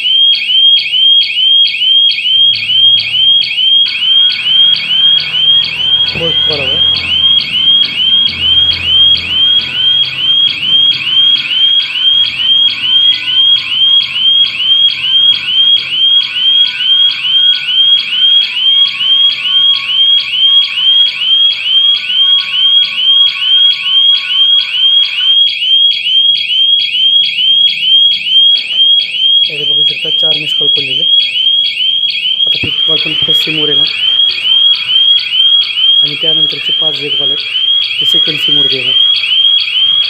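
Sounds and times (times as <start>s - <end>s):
electronic alarm siren sweeps: 0.0s - 40.0s.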